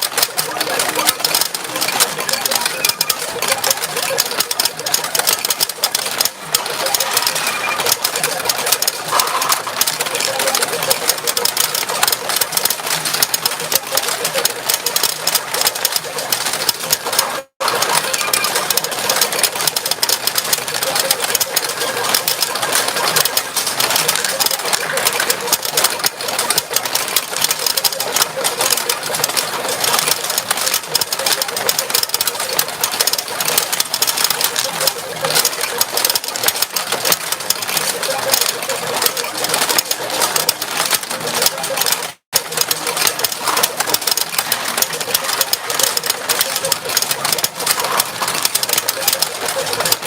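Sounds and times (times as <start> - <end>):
steel balls rattling in machine: 0.0 - 50.0.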